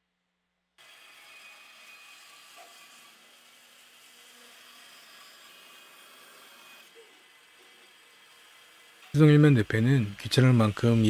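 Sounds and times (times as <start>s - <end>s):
bandsaw whirring: 0.8s - 11.0s.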